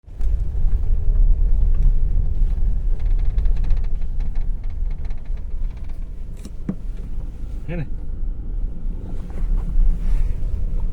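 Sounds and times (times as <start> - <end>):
vehicle low rumble: 0.0 - 10.9.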